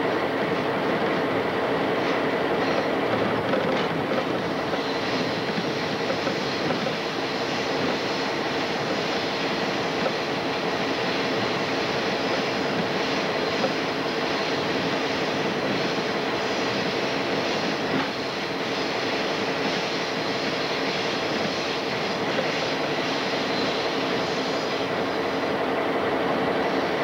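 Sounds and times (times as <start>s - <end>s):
diesel locomotive engine drone: 0.0s - 27.0s
train wheels on rails: 0.0s - 27.0s.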